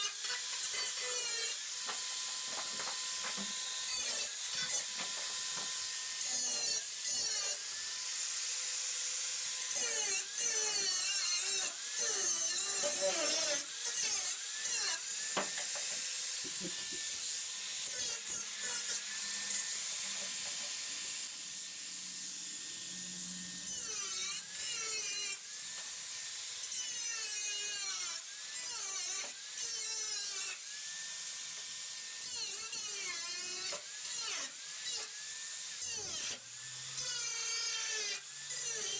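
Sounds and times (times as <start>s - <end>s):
power tool whining on metal: 0.0s - 38.9s.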